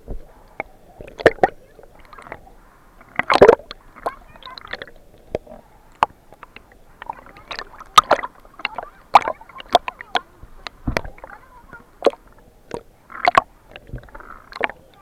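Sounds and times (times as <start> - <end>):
water sloshing and gurgling: 0.0 - 15.0
sharp pops and clicks: 0.1 - 2.4, 3.0 - 14.8.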